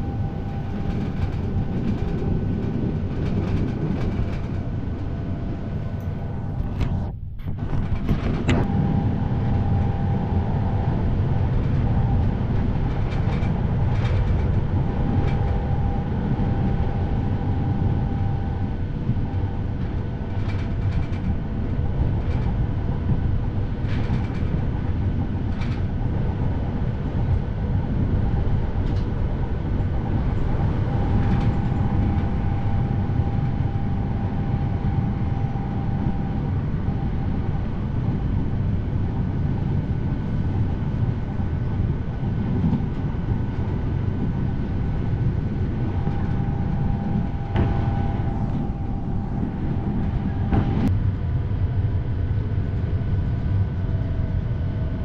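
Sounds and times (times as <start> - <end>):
faint whine: 0.0 - 55.0
train wheels rumbling on rails: 0.0 - 55.0.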